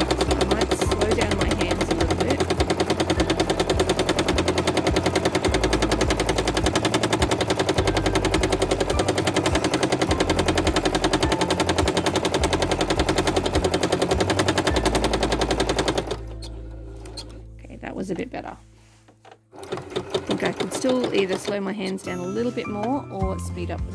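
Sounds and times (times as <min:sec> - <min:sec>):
sewing machine stitching: 0:00.0 - 0:17.4, 0:19.5 - 0:22.5.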